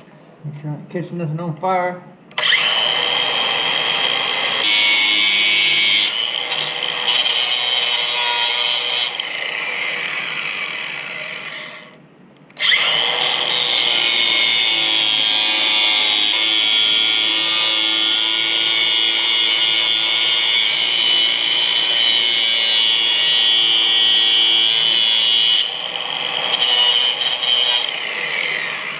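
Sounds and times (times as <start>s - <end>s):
grinder cutting steel bolts: 2.4s - 12.0s, 12.6s - 28.9s.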